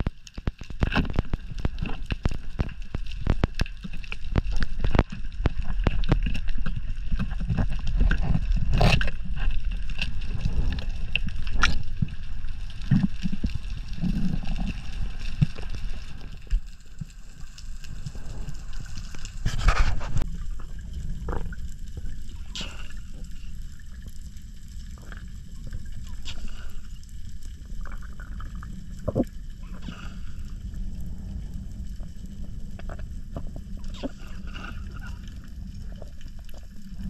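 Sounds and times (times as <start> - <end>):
underwater rush of water: 0.0 - 37.0.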